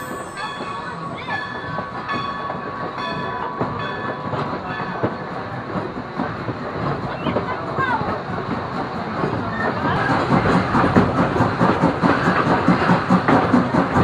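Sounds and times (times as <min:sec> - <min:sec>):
train rumbling on track: 0:00.0 - 0:14.0
wheels clacking over rail joints: 0:00.0 - 0:14.0.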